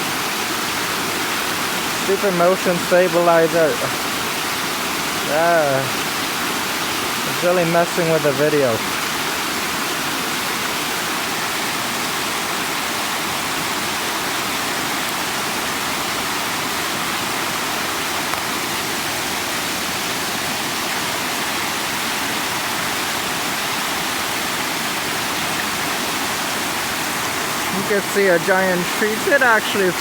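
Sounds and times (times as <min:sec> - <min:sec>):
flooded creek water roaring: 0:00.0 - 0:30.0.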